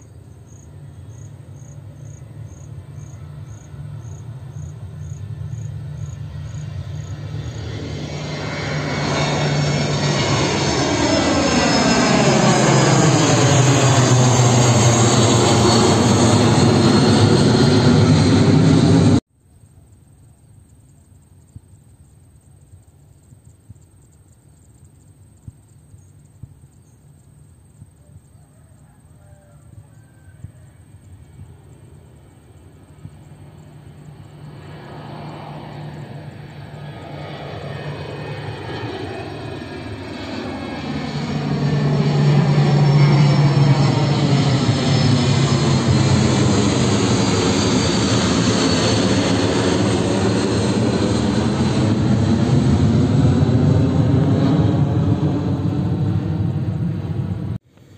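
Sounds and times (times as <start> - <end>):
jet engines running loud: 0.0 - 19.2, 30.7 - 57.9.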